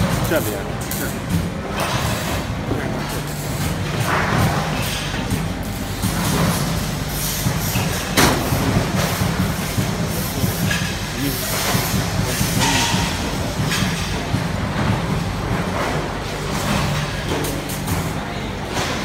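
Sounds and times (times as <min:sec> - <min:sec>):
factory machinery din: 0:00.0 - 0:19.0.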